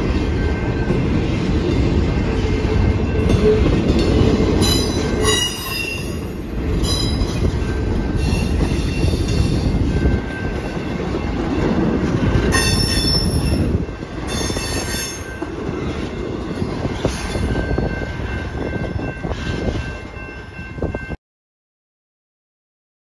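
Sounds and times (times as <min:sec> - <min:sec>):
freight train wheels rumbling: 0:00.0 - 0:21.2.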